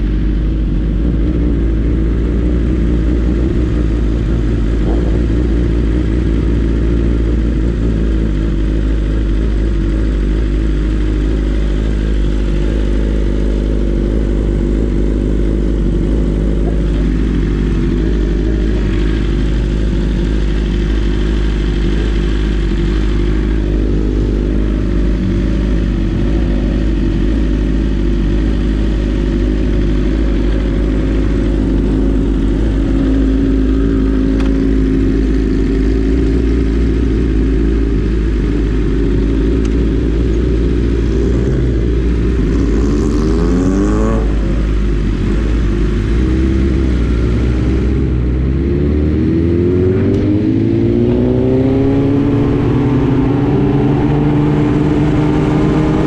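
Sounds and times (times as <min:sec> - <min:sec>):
motorcycle engines idling: 0:00.0 - 0:56.0.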